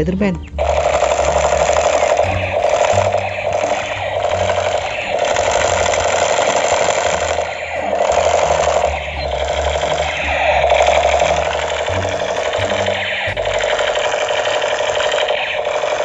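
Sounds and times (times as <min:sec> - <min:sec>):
toy gun machine-gun sound effect: 0:00.6 - 0:16.0.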